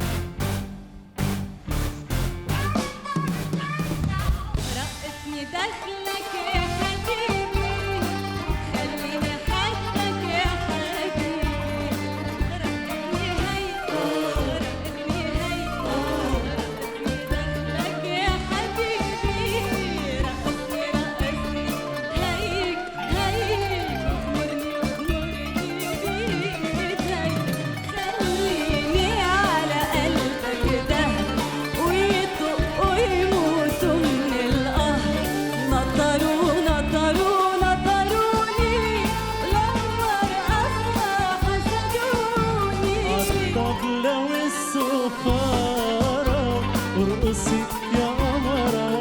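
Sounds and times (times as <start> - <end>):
band accompaniment with steady beat: 0.0 - 49.0
person singing ornamented vocals: 4.6 - 49.0.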